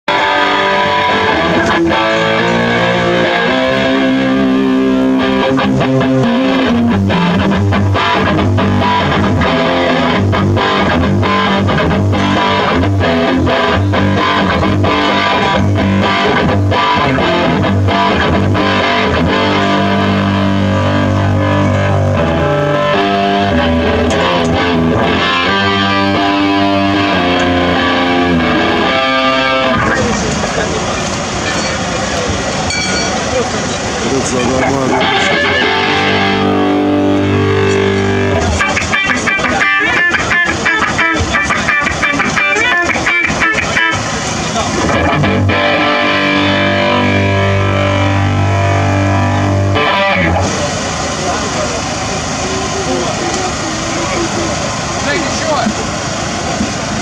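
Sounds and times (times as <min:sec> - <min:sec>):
live rock band: 0:00.1 - 0:31.1, 0:34.1 - 0:52.4.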